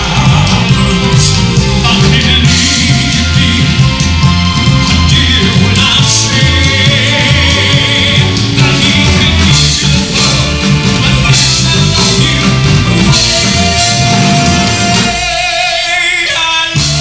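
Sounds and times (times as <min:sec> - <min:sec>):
live rock band playing: 0:00.0 - 0:17.0
man singing: 0:00.0 - 0:17.0.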